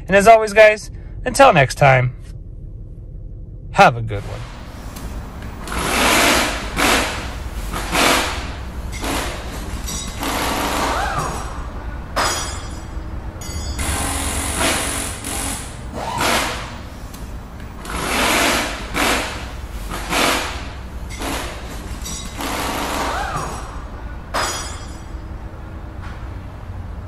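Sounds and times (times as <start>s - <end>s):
low drone: 0.0s - 27.0s.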